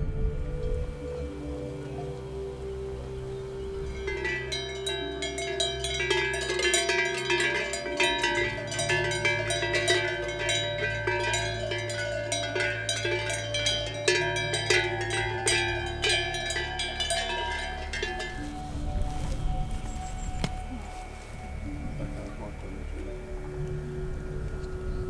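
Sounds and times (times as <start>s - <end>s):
cowbells clanking: 3.7s - 24.2s.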